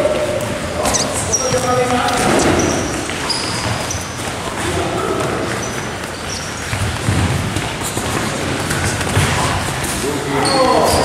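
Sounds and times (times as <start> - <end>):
shoes squeaking on wooden floor: 0.0 - 11.0.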